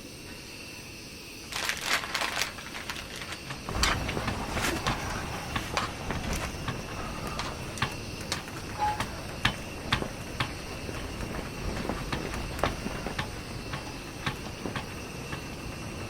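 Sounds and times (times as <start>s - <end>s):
steady background hiss: 0.0s - 16.0s
light clicks and knocks: 2.8s - 16.0s.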